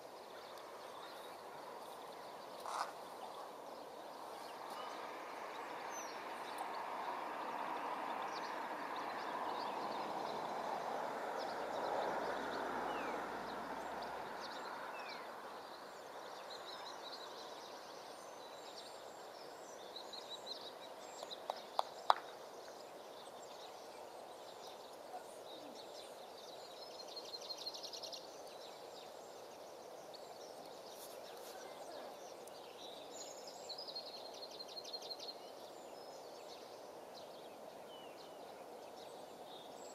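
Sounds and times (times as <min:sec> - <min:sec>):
background hiss: 0:00.0 - 0:39.9
small birds chirping: 0:00.0 - 0:39.9.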